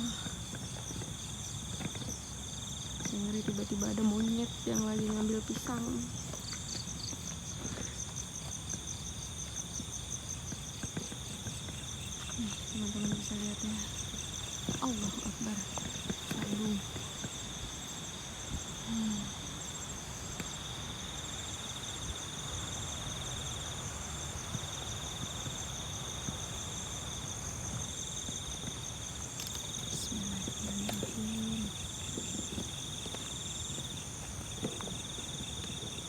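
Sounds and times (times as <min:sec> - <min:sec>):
crickets chirring: 0:00.0 - 0:36.0.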